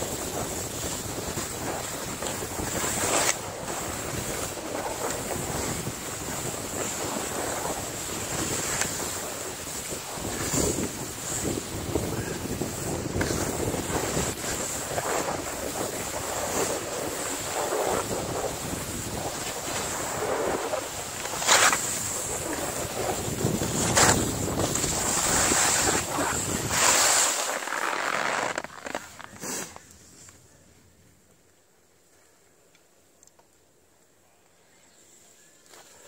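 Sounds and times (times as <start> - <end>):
wind rushing over microphone: 0.0 - 29.5
skis sliding on snow: 0.0 - 30.3.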